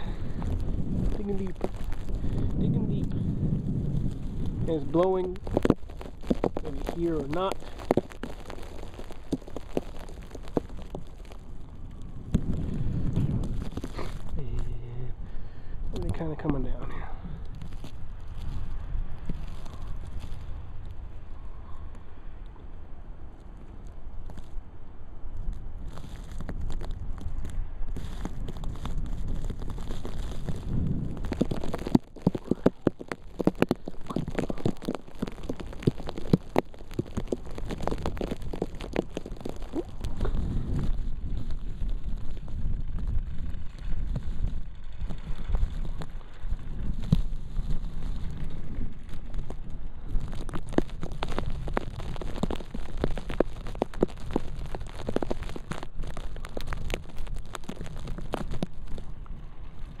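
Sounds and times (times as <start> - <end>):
snow pelting microphone: 0.0 - 21.8, 25.4 - 60.0
sharp crackles and ticks: 0.0 - 22.6, 23.3 - 60.0
low wind rumble: 0.0 - 60.0.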